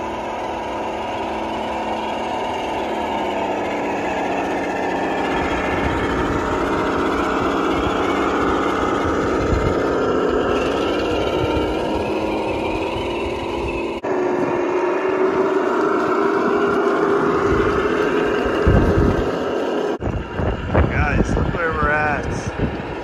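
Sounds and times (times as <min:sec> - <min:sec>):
toy truck motor whining: 0:00.0 - 0:23.0.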